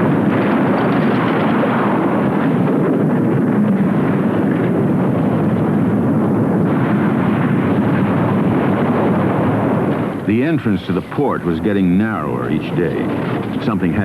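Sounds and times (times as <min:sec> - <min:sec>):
volcanic eruption rumbling: 0:00.0 - 0:14.0.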